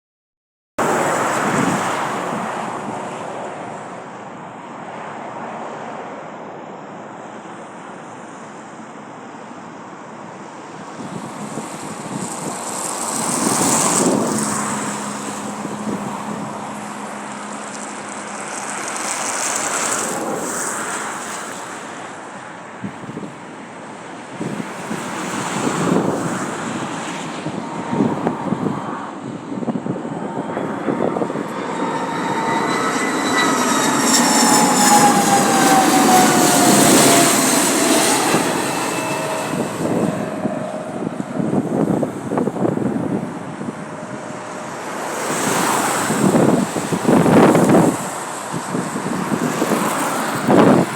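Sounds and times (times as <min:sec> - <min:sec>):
jet engines roaring: 0:00.8 - 0:08.2, 0:10.3 - 0:50.9.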